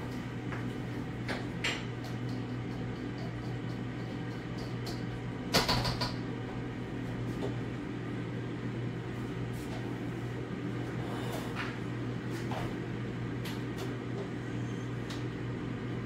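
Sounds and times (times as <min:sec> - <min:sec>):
air fryer humming: 0:00.0 - 0:16.0.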